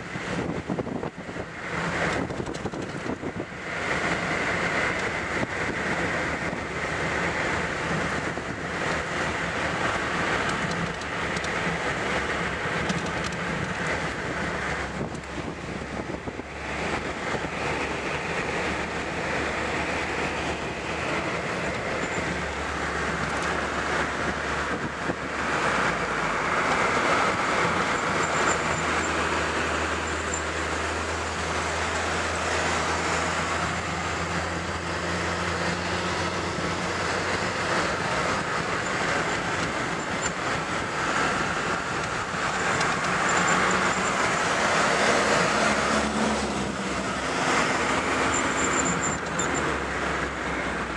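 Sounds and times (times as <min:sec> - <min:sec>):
car interior driving noise: 0:00.0 - 0:50.9.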